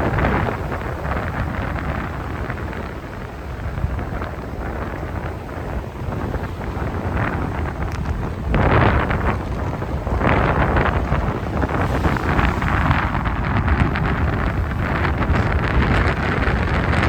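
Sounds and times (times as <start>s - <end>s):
sea waves breaking on beach: 0.0s - 17.0s
wind buffeting microphone: 0.0s - 17.0s.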